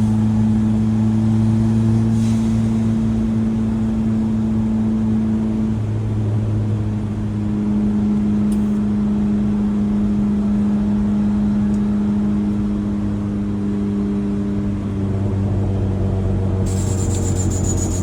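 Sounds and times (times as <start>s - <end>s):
pickup engine droning: 0.0s - 18.0s.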